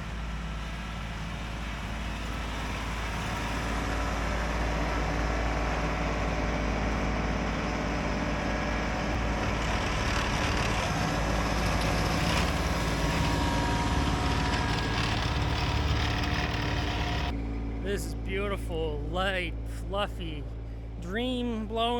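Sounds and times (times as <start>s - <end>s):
snowblower rushing noise: 0.0s - 21.9s
tractor diesel engine running: 0.0s - 21.9s.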